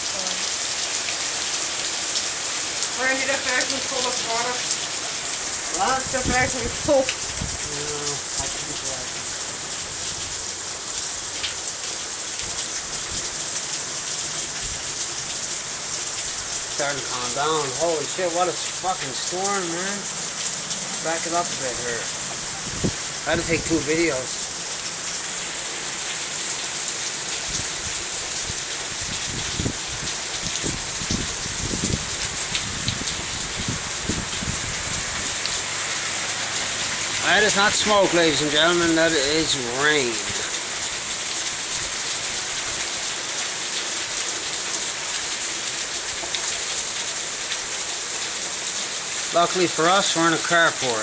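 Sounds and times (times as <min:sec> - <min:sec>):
heavy rain hiss: 0:00.0 - 0:51.0.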